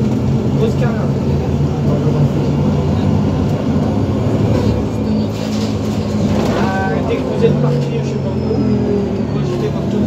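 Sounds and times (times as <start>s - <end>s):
bus engine drone: 0.0s - 10.0s
road rumble: 0.0s - 10.0s.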